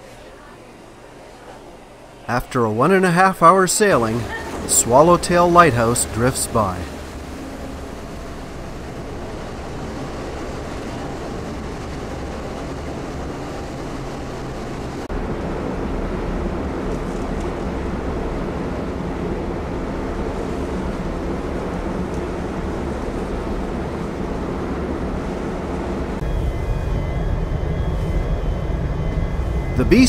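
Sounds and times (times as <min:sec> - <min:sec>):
ship engines droning: 0:00.0 - 0:30.0
wind and sea noise: 0:00.0 - 0:30.0.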